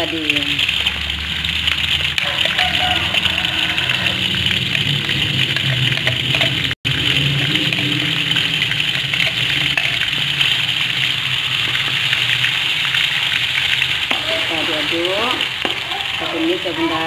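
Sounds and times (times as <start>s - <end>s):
paste sizzling in hot oil: 0.0s - 17.0s
low hum: 0.5s - 15.6s.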